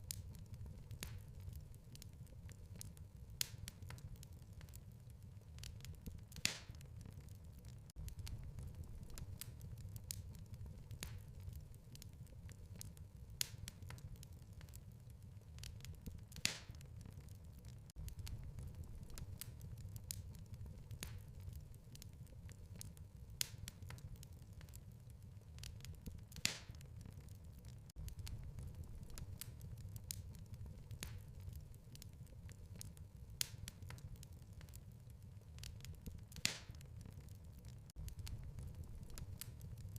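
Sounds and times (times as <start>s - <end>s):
wood fire crackling: 0.0s - 39.9s
sharp pops of burning wood: 0.1s - 39.9s.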